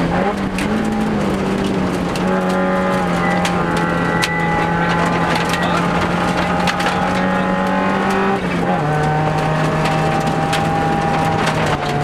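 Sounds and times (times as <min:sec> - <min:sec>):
gravel clicking on car underside: 0:00.0 - 0:12.0
rally car engine running hard: 0:00.0 - 0:12.0.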